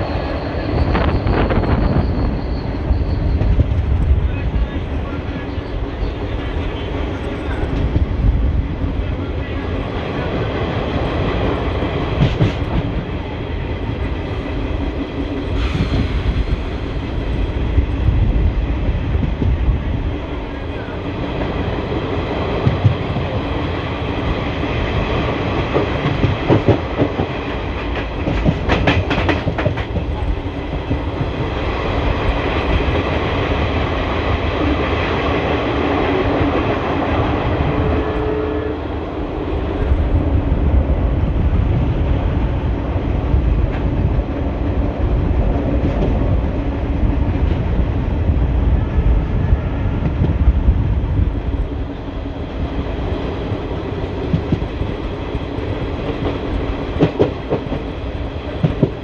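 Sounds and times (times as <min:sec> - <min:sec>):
clickety-clack of rail joints: 0:00.2 - 0:38.7, 0:39.7 - 0:59.0.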